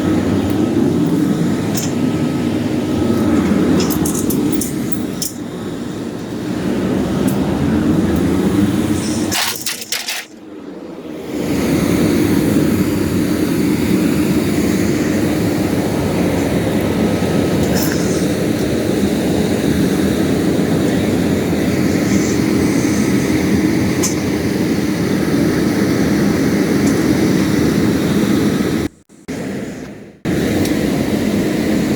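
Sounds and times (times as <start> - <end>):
large engine droning: 0.0 - 31.9.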